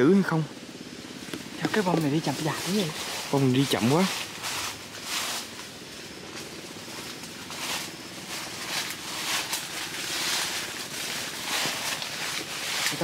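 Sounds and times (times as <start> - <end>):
leaves rustling: 0.0 - 13.0
wind gusting through trees: 0.0 - 13.0.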